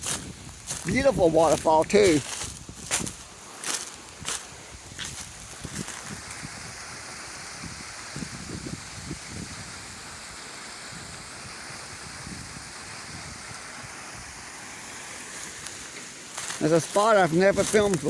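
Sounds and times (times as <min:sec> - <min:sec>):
small waterfall rushing: 0:00.0 - 0:18.0.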